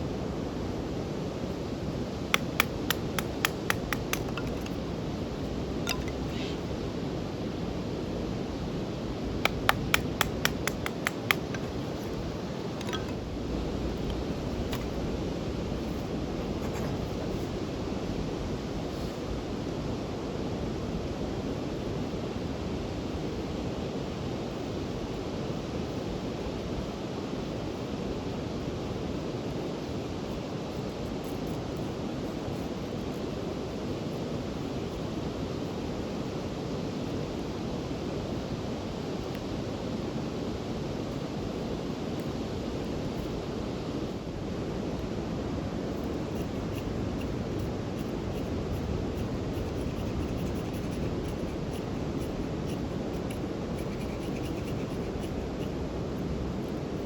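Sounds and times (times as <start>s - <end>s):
low rushing noise outdoors: 0.0s - 57.0s.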